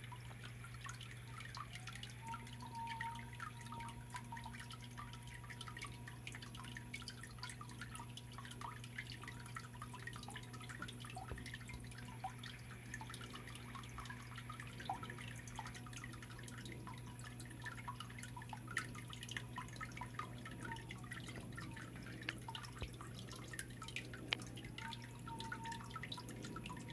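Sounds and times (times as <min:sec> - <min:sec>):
constant low hum: 0:00.0 - 0:26.9
water dripping and splashing: 0:00.0 - 0:26.9.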